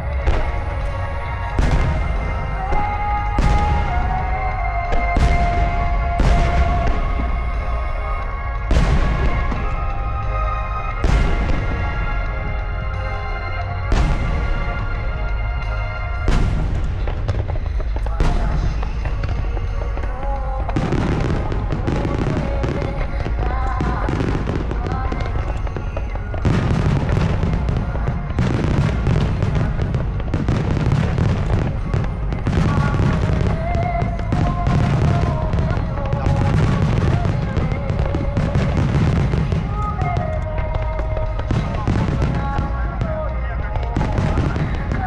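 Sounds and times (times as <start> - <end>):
fireworks cracking and booming: 0.0 - 45.0
melodic music: 0.0 - 45.0.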